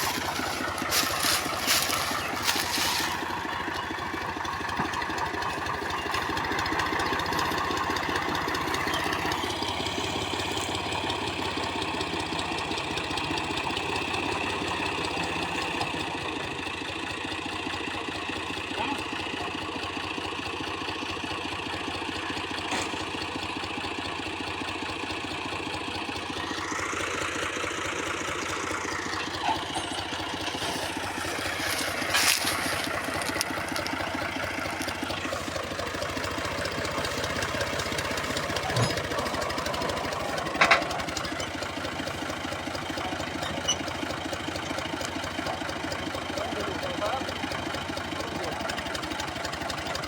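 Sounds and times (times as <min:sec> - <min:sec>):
tractor diesel engine revving: 0:00.0 - 0:50.0.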